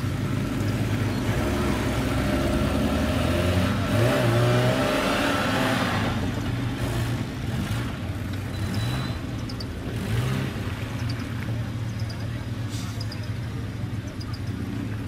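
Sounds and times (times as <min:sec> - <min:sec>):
vehicle engine working under load: 0:00.0 - 0:15.0.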